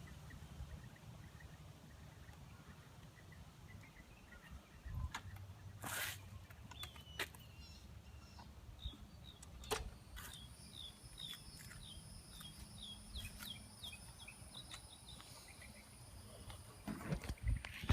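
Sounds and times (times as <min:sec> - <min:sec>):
bird chirping high: 0:00.0 - 0:17.9
faint outdoor background noise: 0:00.0 - 0:17.9.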